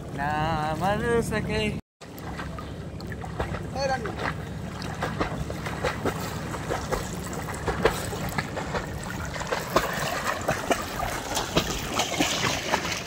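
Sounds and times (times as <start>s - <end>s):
river water lapping and splashing: 0.0s - 13.0s
swimmer splashing: 0.0s - 13.0s.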